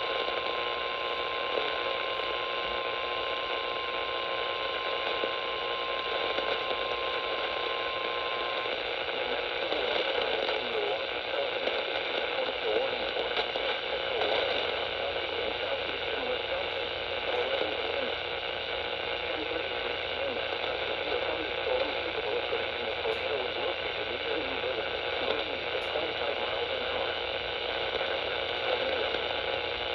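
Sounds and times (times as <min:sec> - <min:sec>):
radio static hiss: 0:00.0 - 0:29.9.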